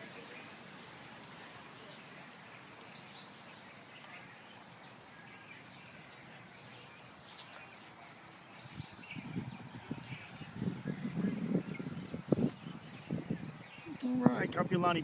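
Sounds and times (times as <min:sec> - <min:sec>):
outdoor background hiss: 0:00.0 - 0:15.0
birds chirping and calling: 0:01.6 - 0:15.0.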